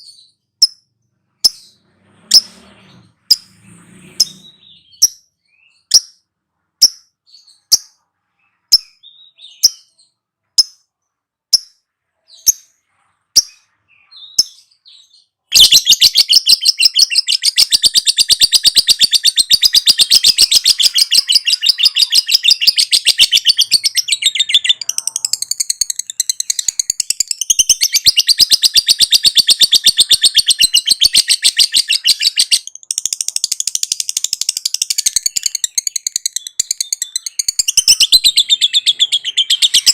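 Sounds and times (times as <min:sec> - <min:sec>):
lovebird chirps and trills: 0:00.0 - 0:39.9.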